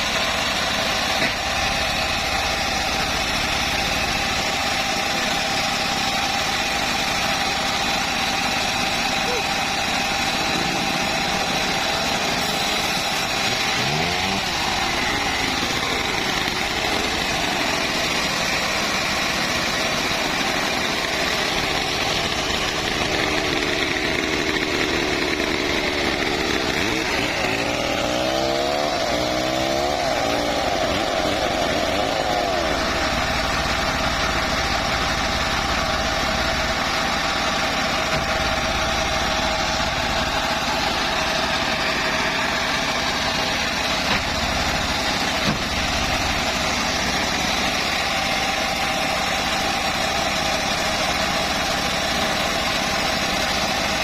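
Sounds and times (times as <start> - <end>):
bandsaw mill running: 0.0 - 54.0.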